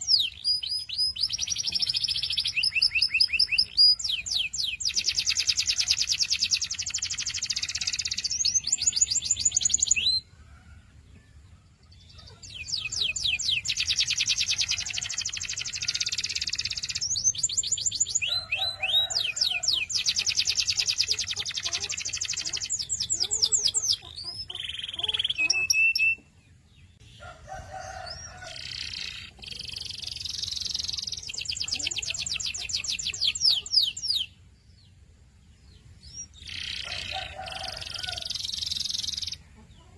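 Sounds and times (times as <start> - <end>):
canary singing trills: 0.0 - 10.3, 11.8 - 39.9.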